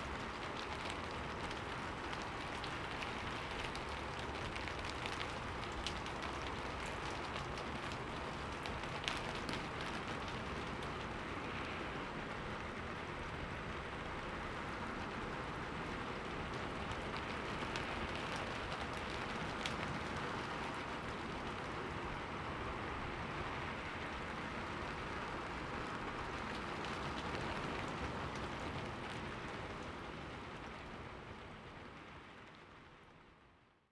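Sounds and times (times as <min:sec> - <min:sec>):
rain pattering on a window: 0:00.0 - 0:33.9.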